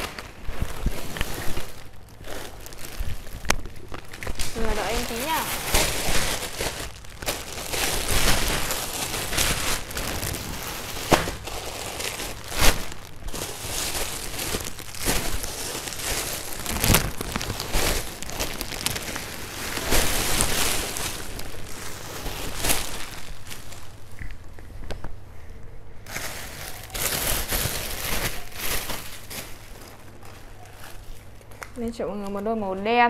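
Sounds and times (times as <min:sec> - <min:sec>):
plastic bags crinkling: 0:00.0 - 0:25.2, 0:26.0 - 0:32.8.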